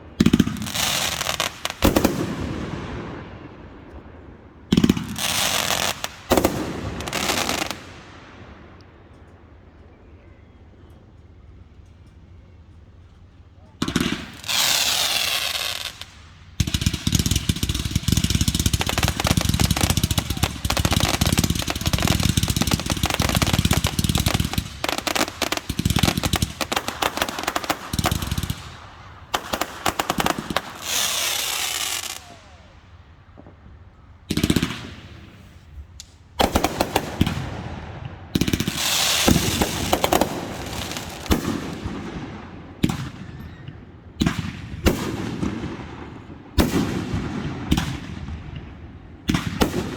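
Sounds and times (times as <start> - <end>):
fireworks bangs and crackling: 0.0 - 9.5, 13.7 - 49.9.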